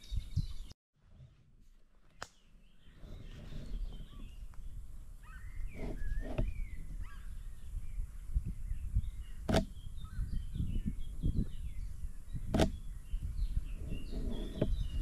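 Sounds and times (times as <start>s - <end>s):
small birds chirping: 0.0s - 1.4s, 2.1s - 15.0s.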